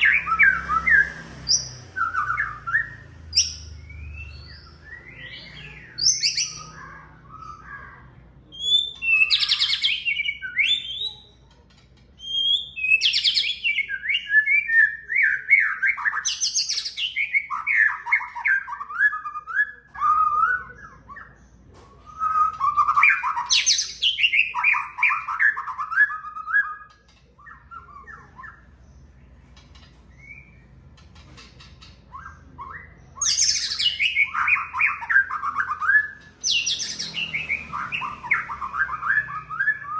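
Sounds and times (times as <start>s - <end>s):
bird singing whistles and chatters: 0.0s - 39.9s.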